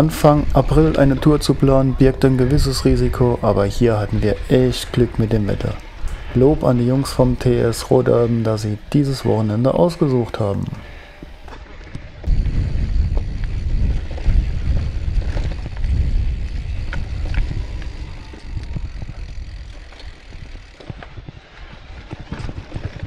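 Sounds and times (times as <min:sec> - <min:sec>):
wind rumble on microphone: 0:00.0 - 0:08.4, 0:10.6 - 0:23.0
bike clicks and rattles: 0:00.0 - 0:23.0
bike tyre noise: 0:00.0 - 0:23.0.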